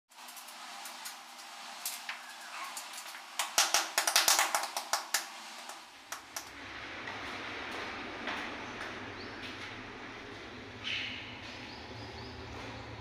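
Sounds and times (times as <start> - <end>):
low steady hum: 0.2 - 13.0.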